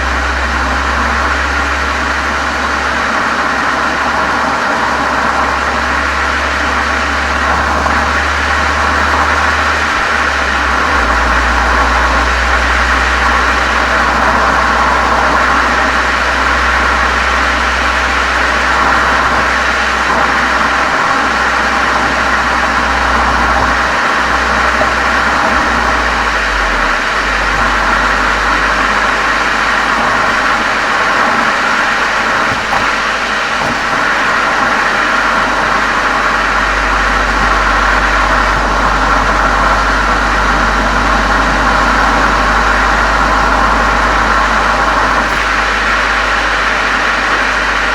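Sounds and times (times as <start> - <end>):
car exhaust drone: 0.0 - 47.9.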